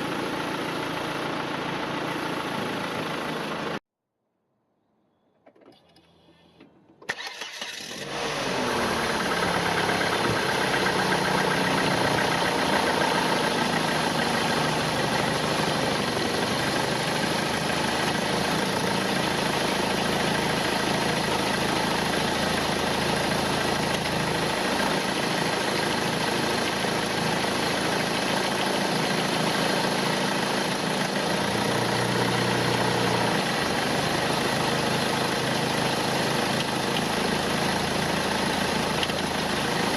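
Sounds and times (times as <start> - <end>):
car engine starting and idling: 0.0 - 3.8, 5.5 - 39.9.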